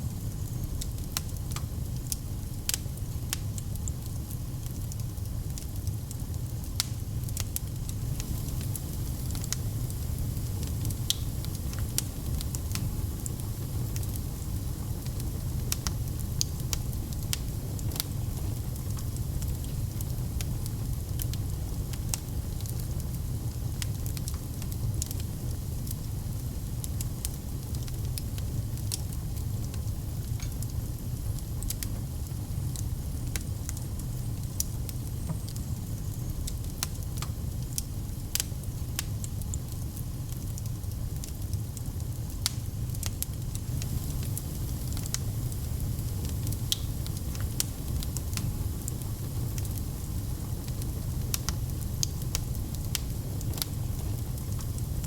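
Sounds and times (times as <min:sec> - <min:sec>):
low rumble of flames: 0:00.0 - 0:55.0
wood fire crackling: 0:00.1 - 0:55.0
fire pops and snaps: 0:00.4 - 0:26.0, 0:26.8 - 0:55.0.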